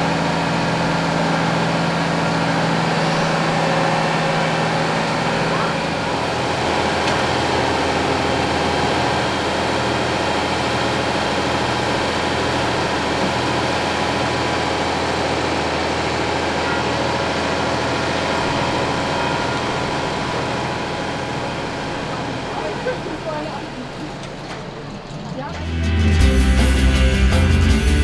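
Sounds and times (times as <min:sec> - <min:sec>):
heavy truck engine droning: 0:00.0 - 0:28.0.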